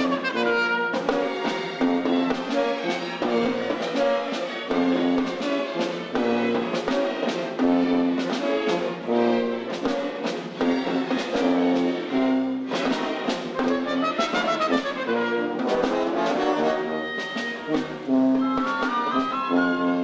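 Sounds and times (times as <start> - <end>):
orchestra playing ballet music: 0.0 - 20.0.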